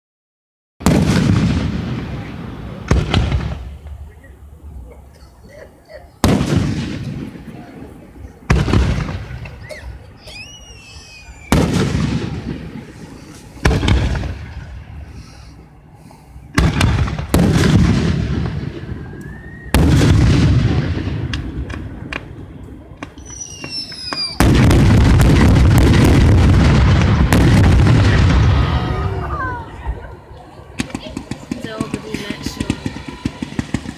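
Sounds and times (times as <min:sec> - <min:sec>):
fireworks barrage: 0:00.8 - 0:33.9
fireworks booming: 0:00.8 - 0:33.9
high whistling fireworks: 0:00.8 - 0:33.9.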